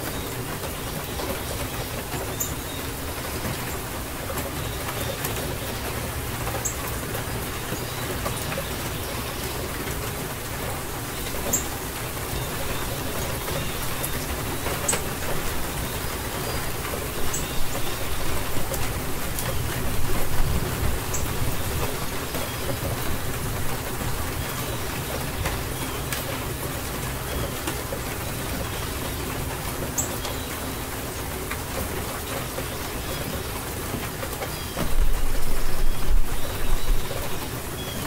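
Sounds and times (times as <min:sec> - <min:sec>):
rain hissing: 0:00.0 - 0:38.0.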